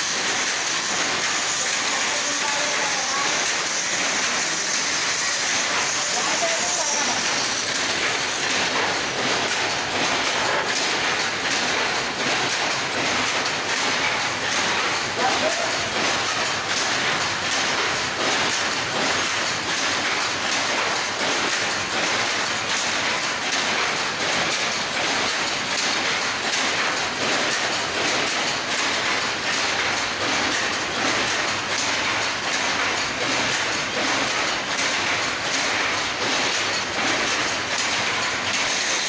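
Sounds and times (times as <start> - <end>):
power loom clattering: 0.0 - 39.0.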